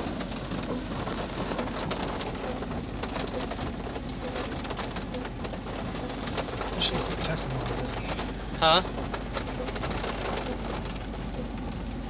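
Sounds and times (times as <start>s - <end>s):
heavy rain on vehicle roof: 0.0s - 12.0s.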